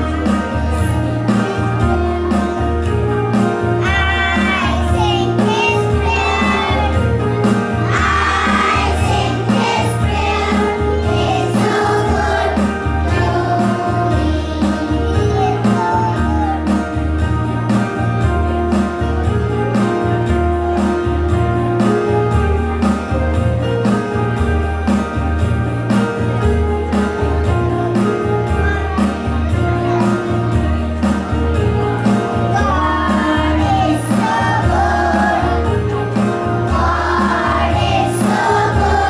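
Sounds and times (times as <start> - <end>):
hymn accompaniment music: 0.0 - 39.0.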